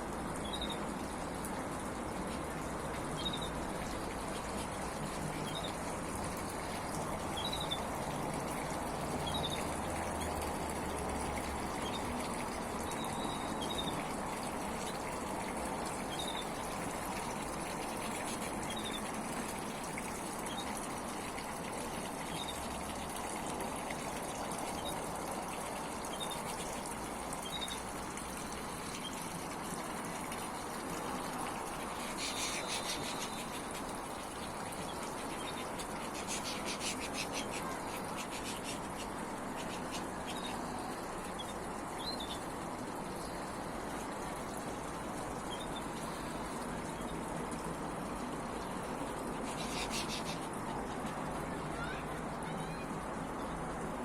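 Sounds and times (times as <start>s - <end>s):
fountain splashing: 0.0s - 54.0s.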